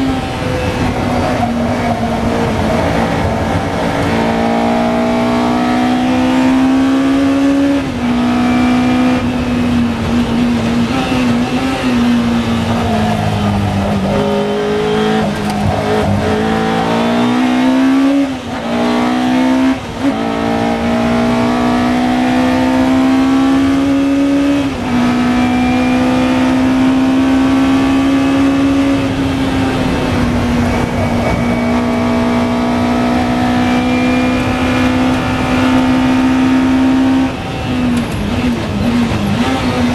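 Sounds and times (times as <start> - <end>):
racing car engine: 0.0 - 39.9.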